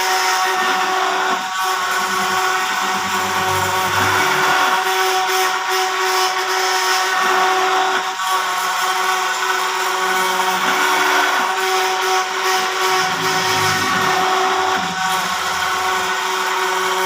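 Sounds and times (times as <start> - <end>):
small motor whining: 0.0 - 6.4, 7.0 - 17.0.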